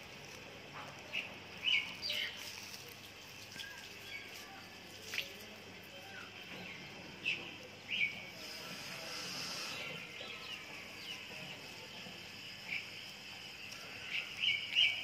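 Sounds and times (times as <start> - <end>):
faint high insect-like buzz: 0.0 - 15.0
birds chirping: 1.0 - 15.0.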